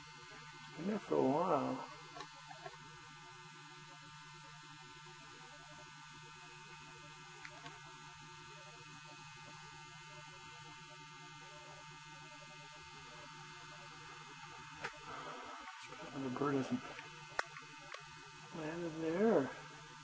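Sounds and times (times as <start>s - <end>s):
faint electrical hum: 0.0s - 20.0s
thin whine: 0.0s - 20.0s.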